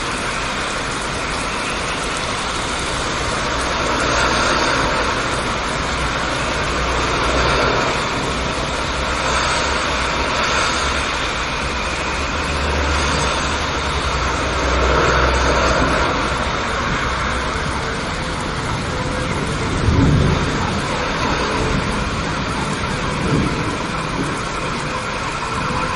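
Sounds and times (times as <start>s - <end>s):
low thunder rumble: 0.0s - 25.9s
steady rain falling: 0.0s - 25.9s.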